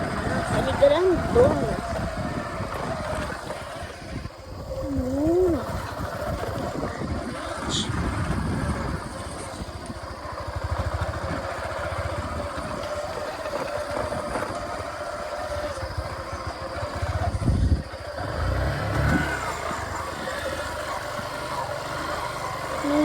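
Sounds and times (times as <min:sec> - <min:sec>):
vehicle engine running: 0:00.0 - 0:23.0
vehicle jolting on bumpy road: 0:00.0 - 0:23.0.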